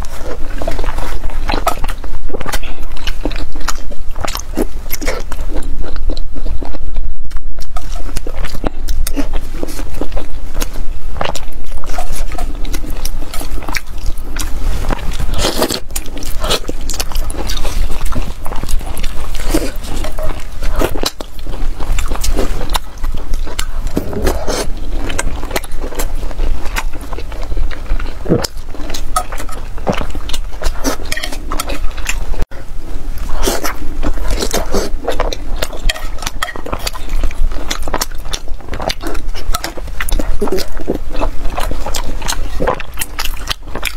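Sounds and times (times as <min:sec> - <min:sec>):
wet chewing and mouth smacks: 0:00.0 - 0:32.5, 0:33.2 - 0:43.9.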